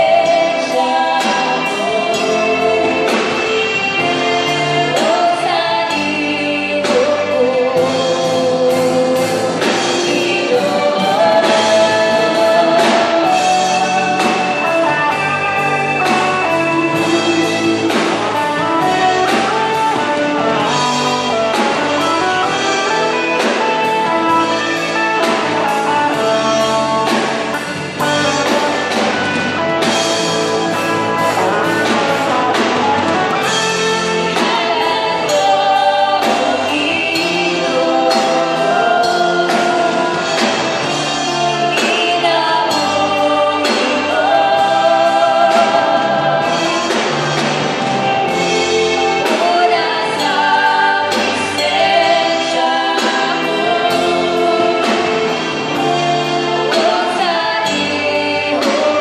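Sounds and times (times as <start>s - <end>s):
drum kit steady beat: 0.0s - 59.0s
electric guitars: 0.0s - 59.0s
keyboard: 0.0s - 59.0s
people singing into microphones: 0.0s - 59.0s.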